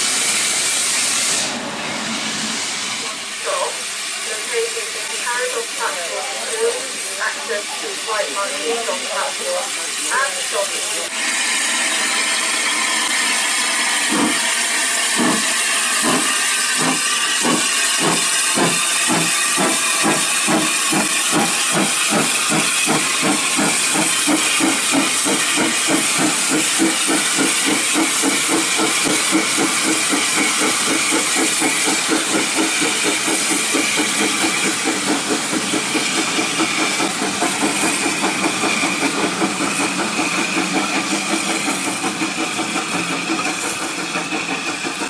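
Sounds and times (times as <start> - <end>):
steam hissing: 0.0 - 45.0
steam locomotive exhaust chuffs: 0.0 - 45.0.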